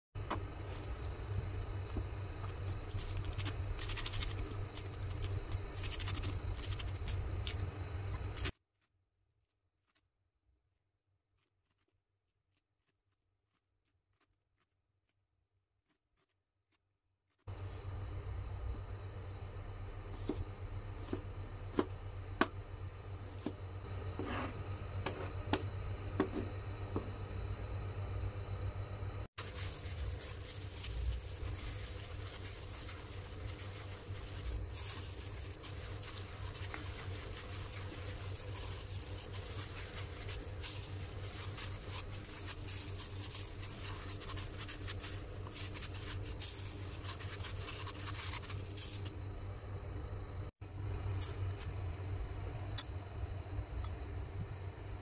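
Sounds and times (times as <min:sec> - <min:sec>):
low steady hum: 0:00.2 - 0:08.5, 0:17.5 - 0:55.0.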